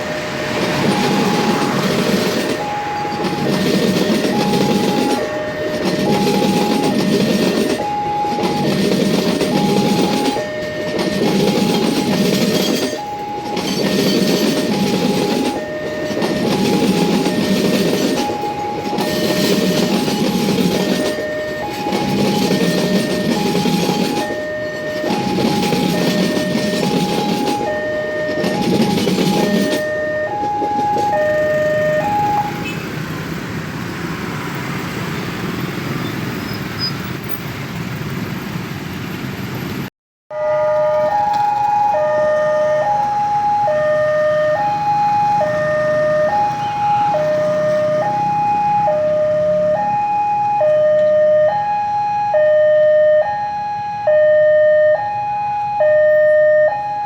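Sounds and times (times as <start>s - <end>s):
two-tone level crossing alarm: 0.0s - 33.0s, 40.3s - 57.0s
train wagons rumbling over rails: 0.0s - 53.5s.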